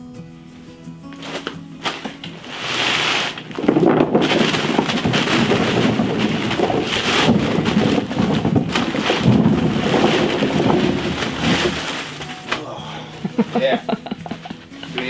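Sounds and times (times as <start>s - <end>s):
potatoes tumbling and knocking: 1.1s - 15.0s.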